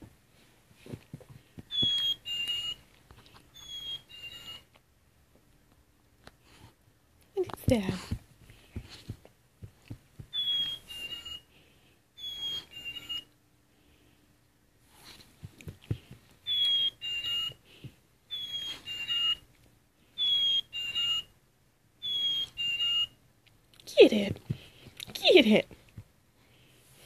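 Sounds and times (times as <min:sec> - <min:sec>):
faint recording hiss: 0:00.0 - 0:27.0.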